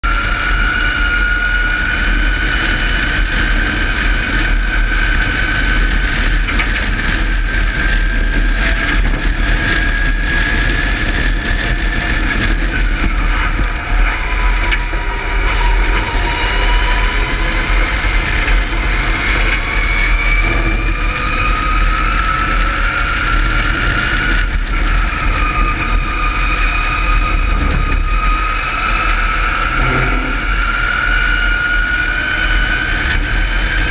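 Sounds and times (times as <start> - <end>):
wind rush on microphone: 0.0 - 33.9
electric motor whine: 0.1 - 33.9.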